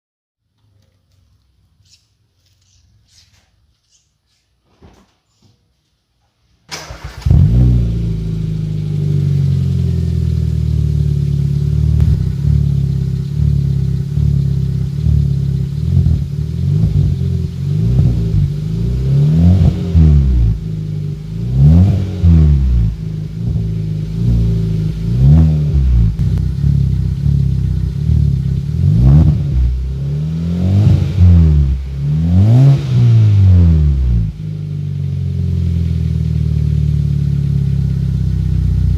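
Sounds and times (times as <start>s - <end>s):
car engine idling and revving: 6.8s - 38.9s.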